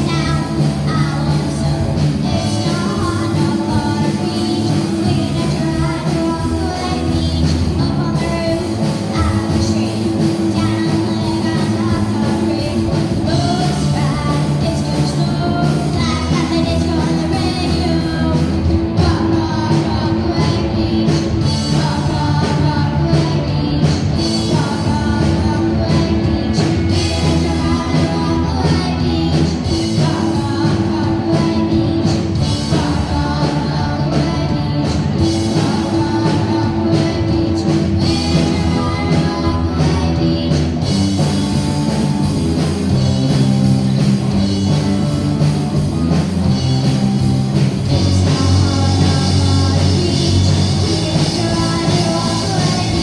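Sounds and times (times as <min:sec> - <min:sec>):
person singing: 0:00.0 - 0:53.0
rock band playing: 0:00.0 - 0:53.0.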